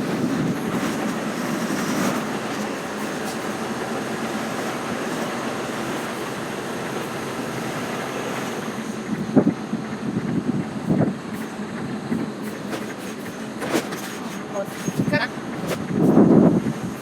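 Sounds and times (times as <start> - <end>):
lorry diesel engine running: 0.0 - 17.0.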